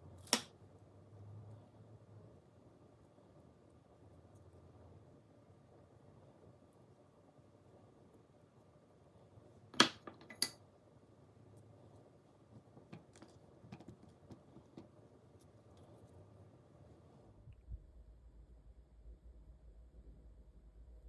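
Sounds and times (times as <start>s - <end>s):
faint air conditioner hum: 0.0s - 21.0s.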